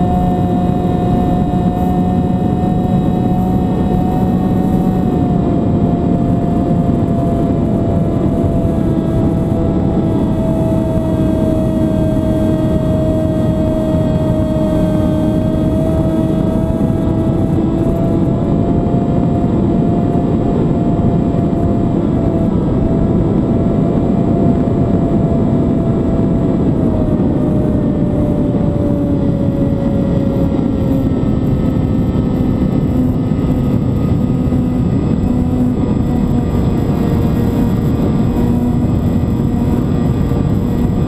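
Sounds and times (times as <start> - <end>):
aircraft motor and propeller whine: 0.0 - 41.0
wind rush: 0.0 - 41.0.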